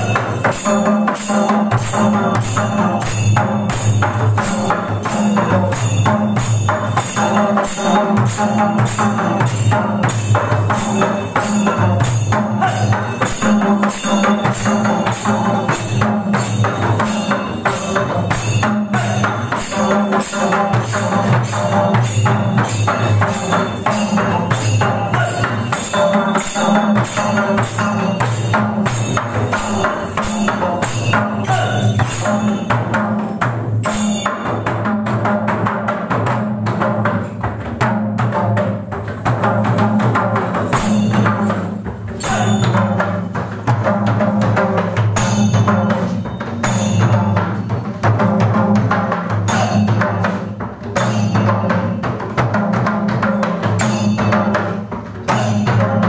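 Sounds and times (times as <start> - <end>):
folk dance music on hand drums: 0.0 - 56.0
jingling metal percussion: 0.0 - 56.0.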